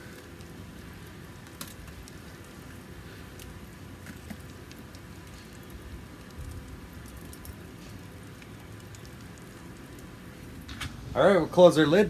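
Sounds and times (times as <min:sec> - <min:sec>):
charcoal grill sizzling: 0:00.0 - 0:12.0
light crackles: 0:00.0 - 0:12.0.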